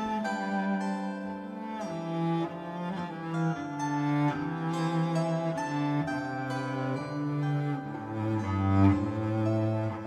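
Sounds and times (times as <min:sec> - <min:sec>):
cello playing long bowed notes: 0:00.0 - 0:10.0.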